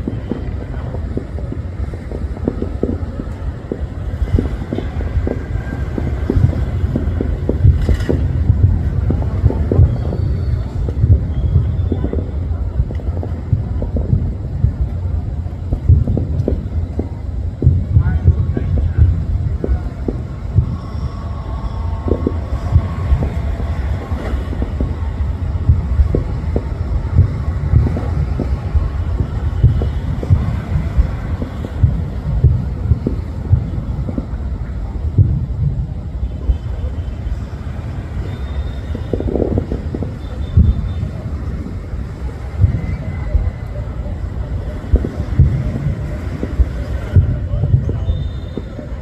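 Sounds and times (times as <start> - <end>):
continuous low rumble: 0.0 - 49.0
distant fireworks booming: 0.0 - 49.0.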